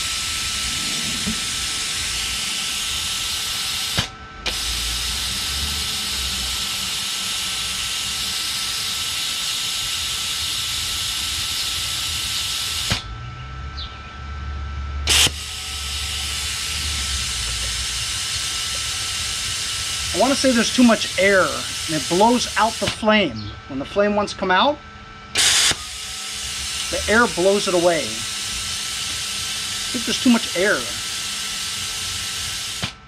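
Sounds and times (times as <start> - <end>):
plasma cutter torch hissing: 0.0 - 13.0, 15.1 - 23.1, 25.4 - 33.0.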